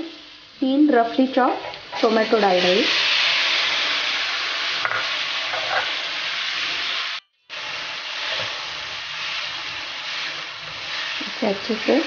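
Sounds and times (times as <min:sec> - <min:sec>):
tomatoes sizzling in oil: 0:00.0 - 0:12.0.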